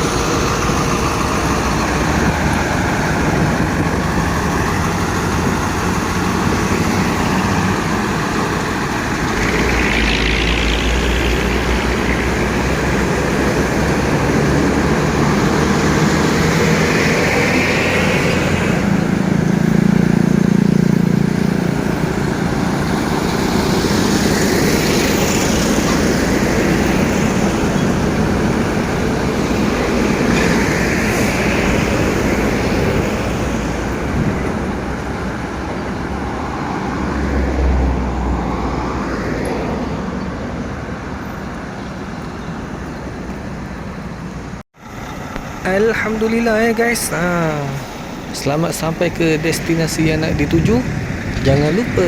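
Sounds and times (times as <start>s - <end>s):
heavy vehicle engine drone: 0.0s - 52.0s
tyre and road noise: 0.0s - 52.0s.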